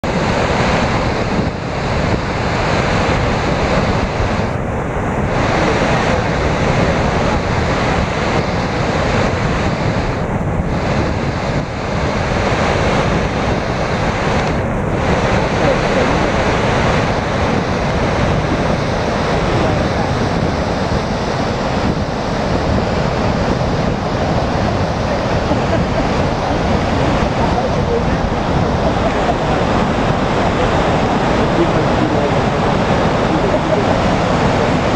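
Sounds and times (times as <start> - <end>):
waterfall rushing: 0.0 - 34.9
wind buffeting microphone: 0.0 - 34.9.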